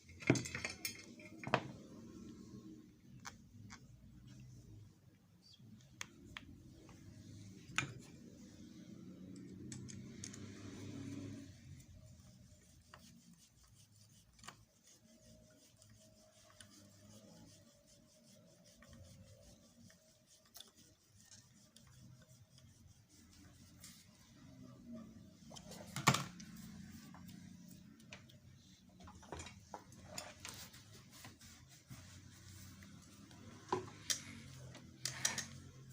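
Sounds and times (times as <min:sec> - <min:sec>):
faint rubbing: 0:01.8 - 0:35.9.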